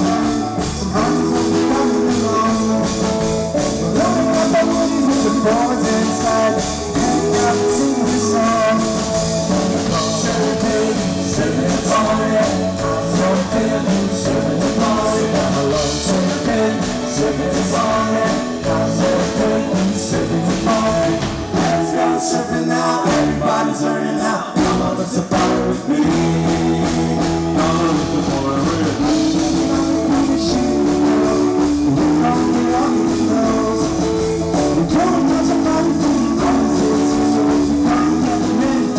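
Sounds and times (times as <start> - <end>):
bass: 0.0 - 38.9
electric guitar: 0.0 - 38.9
keyboard: 0.0 - 38.9
men singing: 0.0 - 38.9.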